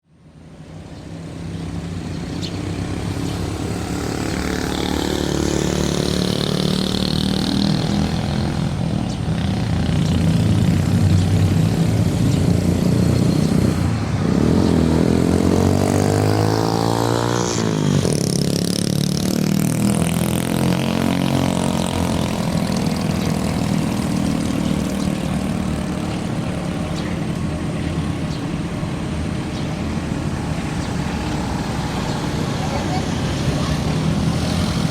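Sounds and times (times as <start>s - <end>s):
engines running: 0.2s - 34.9s
vehicle passing by: 0.6s - 34.9s.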